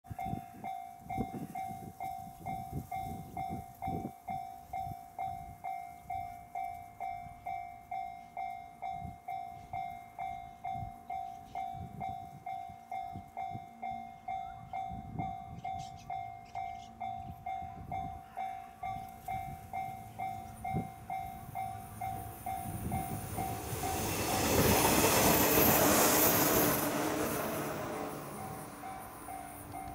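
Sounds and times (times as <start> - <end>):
electric train passing: 0.1 - 29.9
level crossing warning bell: 0.1 - 29.9.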